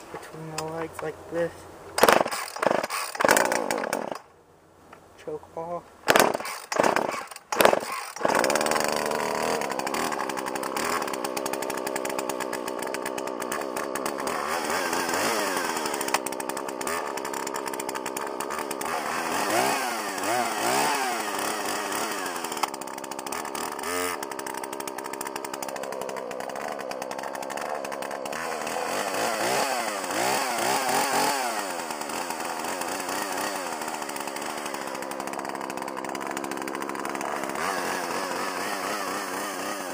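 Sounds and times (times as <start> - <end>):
chainsaw engine revving: 0.0 - 4.3, 6.0 - 39.9
chainsaw pull cord: 1.9 - 4.3, 6.1 - 39.9.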